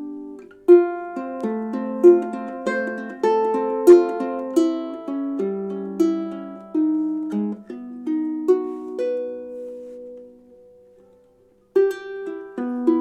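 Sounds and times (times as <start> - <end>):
ukulele plucked notes: 0.0 - 13.0.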